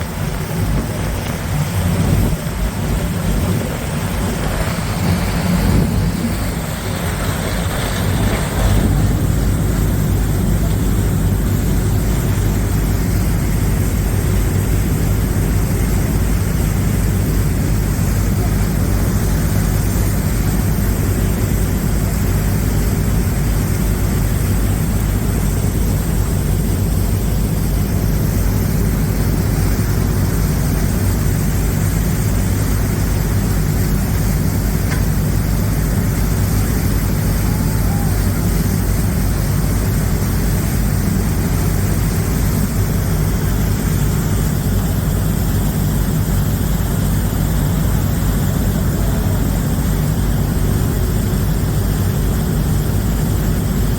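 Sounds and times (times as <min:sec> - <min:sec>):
boat engines droning: 0:00.0 - 0:53.9.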